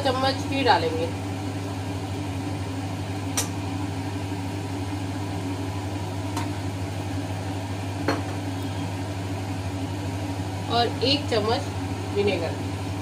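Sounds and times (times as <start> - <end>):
low kitchen hum: 0.0 - 13.0.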